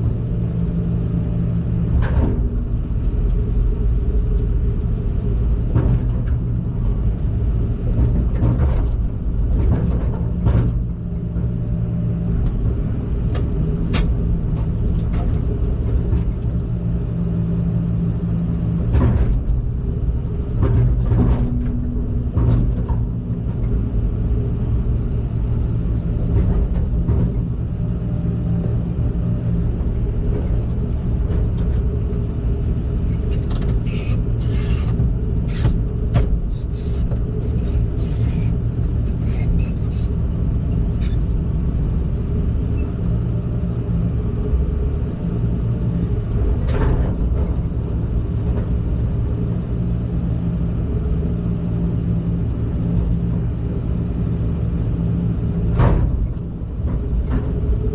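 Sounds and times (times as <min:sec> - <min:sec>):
heavy machine engine drone: 0:00.0 - 0:57.9.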